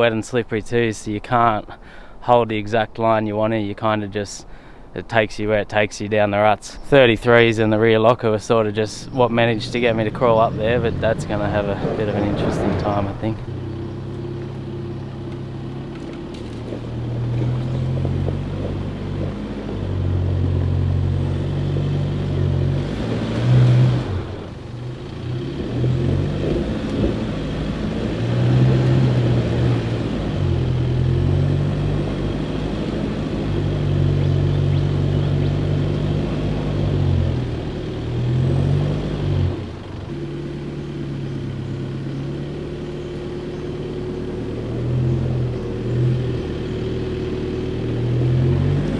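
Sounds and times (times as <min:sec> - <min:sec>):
off-road vehicle engine revving: 0:07.0 - 0:48.9.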